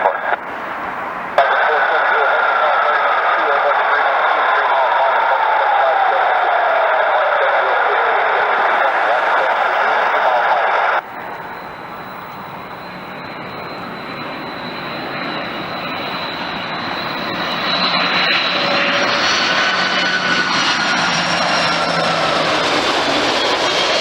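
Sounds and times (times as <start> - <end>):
jet airliner engine noise: 0.0 - 24.0.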